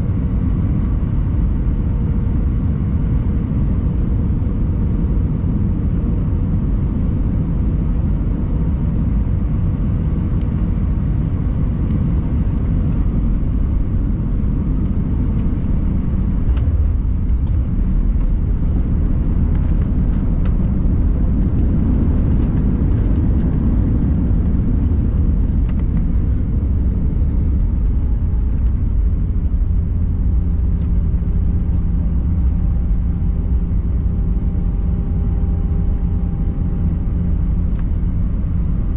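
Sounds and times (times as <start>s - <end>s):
engine hum with distinct tones: 0.0s - 38.9s
jet engine and airflow rumble: 0.0s - 38.9s.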